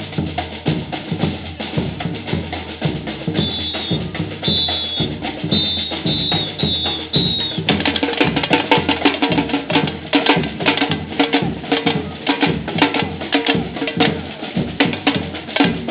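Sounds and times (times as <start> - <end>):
percussion-heavy music: 0.0 - 15.9.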